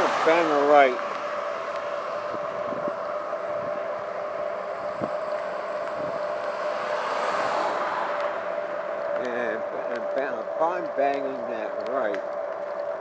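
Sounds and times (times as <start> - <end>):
bike road and wind noise: 0.0 - 13.0.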